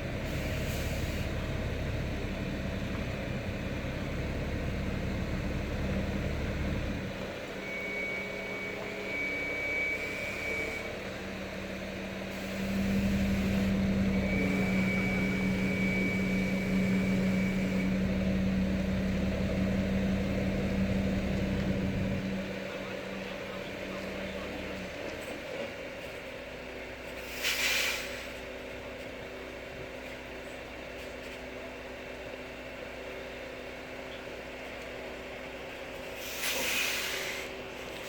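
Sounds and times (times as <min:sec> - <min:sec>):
tram electric hum: 0:00.0 - 0:38.0.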